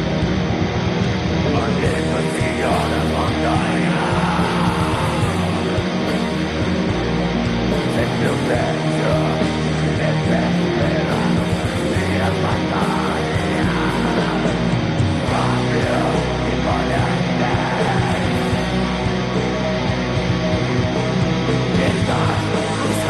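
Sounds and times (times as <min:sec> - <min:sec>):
distorted electric guitars: 0:00.0 - 0:23.0.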